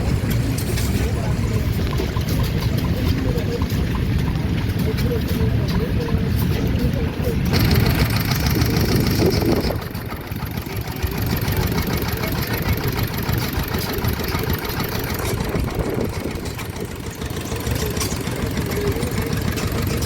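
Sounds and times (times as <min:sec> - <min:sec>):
stationary engine running: 0:00.0 - 0:20.0.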